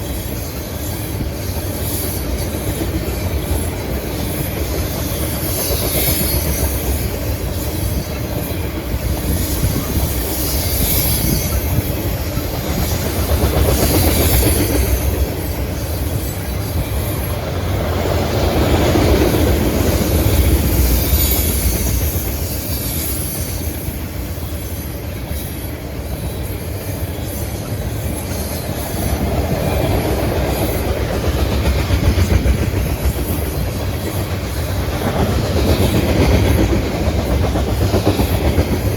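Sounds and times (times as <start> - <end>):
high wheel squeal: 0.0 - 31.5
train wheels rumbling on rail: 0.0 - 38.9.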